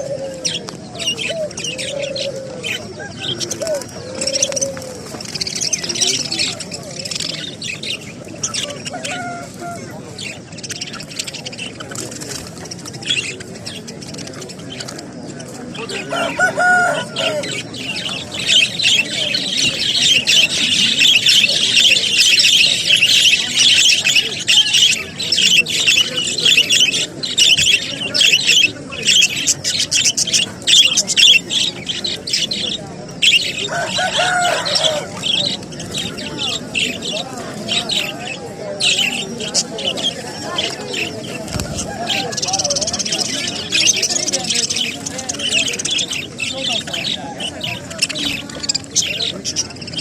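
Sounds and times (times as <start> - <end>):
parrots chattering and squawking: 0.0 - 50.0.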